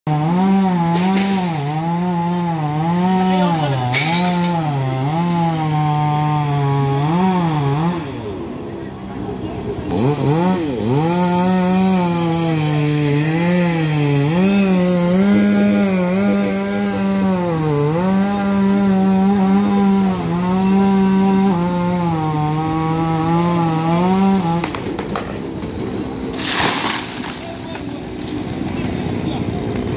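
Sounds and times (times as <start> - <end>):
chainsaw cutting wood: 0.1 - 8.6, 9.9 - 29.9.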